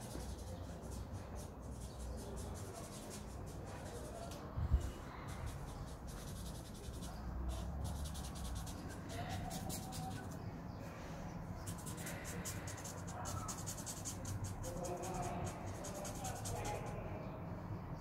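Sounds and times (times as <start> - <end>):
paint marker scratching on card: 0.0 - 10.5, 11.6 - 17.0.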